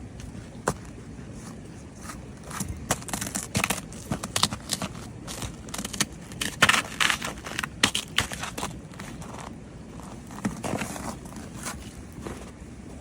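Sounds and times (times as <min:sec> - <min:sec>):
footsteps crunching on frozen ground: 0:00.2 - 0:12.6.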